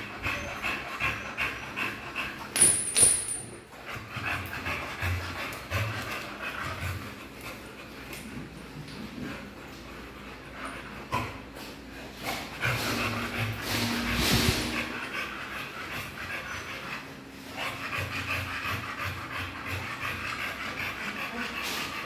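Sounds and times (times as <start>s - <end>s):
dog panting: 0.0s - 2.8s, 3.6s - 22.0s.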